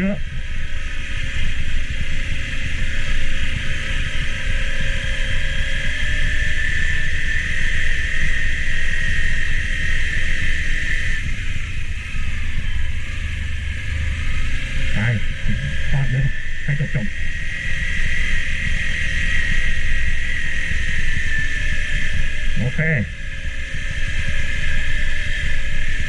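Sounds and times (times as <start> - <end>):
high-pitched drone: 0.0 - 26.0.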